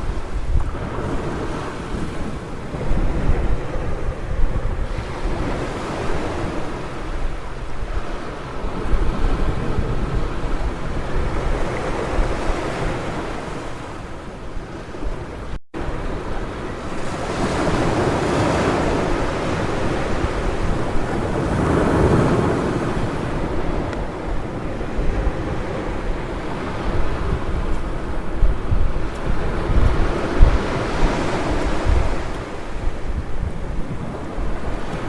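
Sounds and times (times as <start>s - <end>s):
surf washing onto beach: 0.0s - 35.0s
wind rumbling on microphone: 0.0s - 35.0s.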